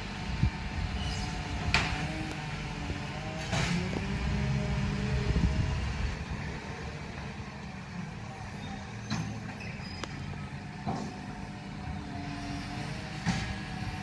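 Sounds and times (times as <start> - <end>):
garbage truck diesel engine: 0.0 - 14.0.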